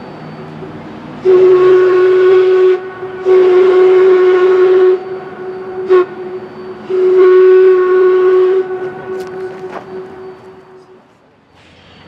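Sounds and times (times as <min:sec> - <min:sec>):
steam locomotive whistle blasts: 0:00.0 - 0:12.0.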